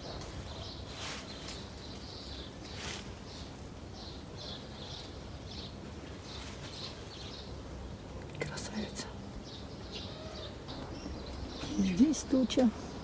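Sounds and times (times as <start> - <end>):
small birds singing: 0.0 - 13.0.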